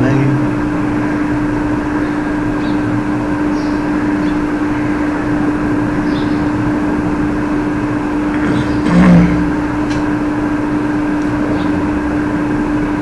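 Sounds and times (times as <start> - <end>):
constant low hum: 0.0 - 13.0
steady microphone hiss: 0.0 - 13.0.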